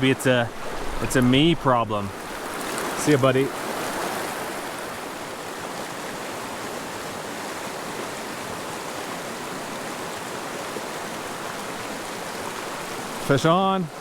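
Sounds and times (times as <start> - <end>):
mountain river flowing: 0.0 - 14.0.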